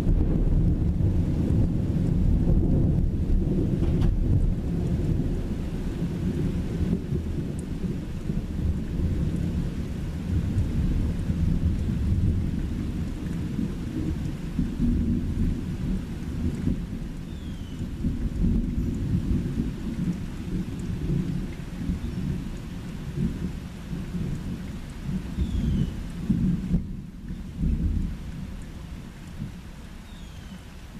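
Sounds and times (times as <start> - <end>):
rolling thunder rumble: 0.0 - 29.7
heavy rain: 0.0 - 30.9.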